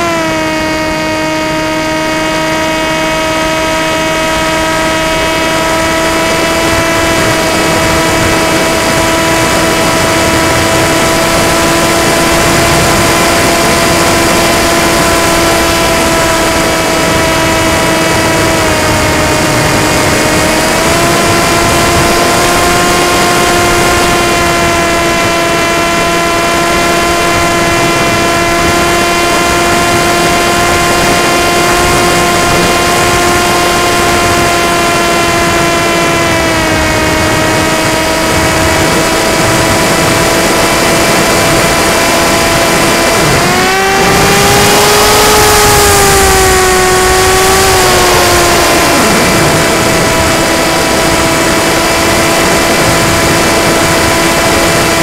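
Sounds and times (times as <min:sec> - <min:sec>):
electric motor and propeller whine: 0:00.0 - 0:55.0
wind rush: 0:00.0 - 0:55.0.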